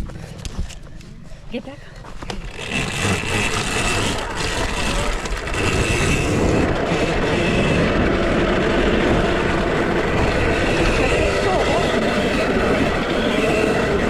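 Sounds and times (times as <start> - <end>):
rushing noise and rattle: 2.1 - 14.0
electric motor whine: 2.4 - 14.0.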